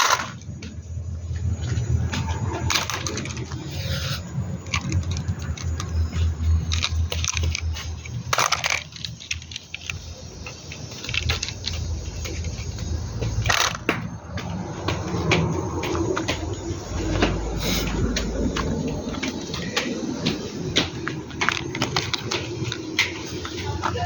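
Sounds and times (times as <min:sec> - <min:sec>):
plastic toys clattering: 0:00.0 - 0:00.7, 0:01.8 - 0:14.5, 0:17.2 - 0:24.0
steady low hum: 0:00.0 - 0:24.0.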